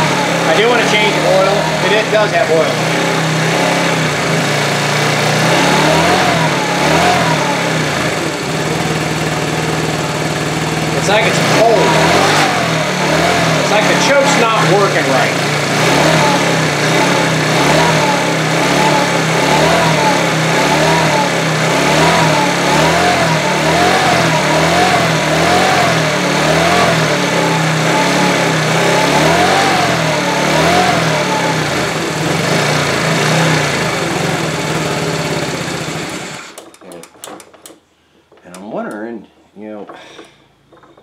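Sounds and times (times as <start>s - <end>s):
scooter engine running: 0.0s - 37.6s.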